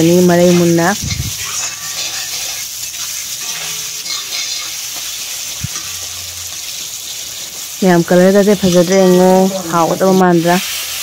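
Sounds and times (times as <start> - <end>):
metal spatula stirring: 0.0 - 10.9
potatoes sizzling in hot oil: 0.0 - 11.0.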